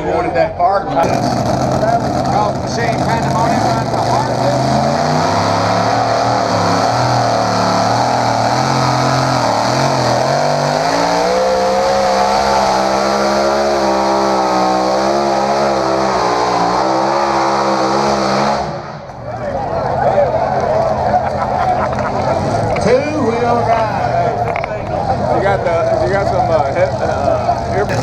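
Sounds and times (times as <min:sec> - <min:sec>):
truck engine revving hard: 0:01.0 - 0:19.1, 0:20.8 - 0:24.4, 0:25.0 - 0:28.0.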